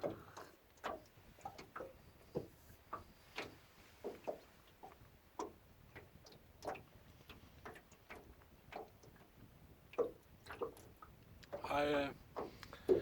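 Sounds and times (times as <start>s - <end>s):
small waves slapping a boat: 0.0s - 13.0s.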